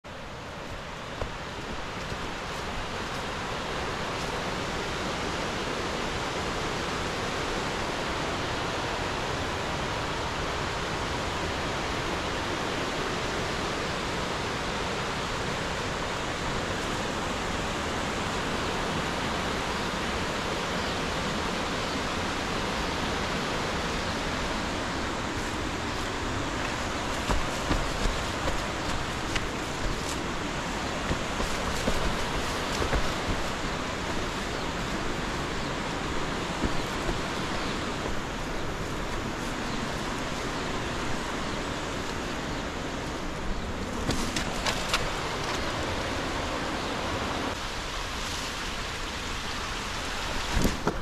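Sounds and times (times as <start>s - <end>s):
stream rushing: 0.0s - 51.0s.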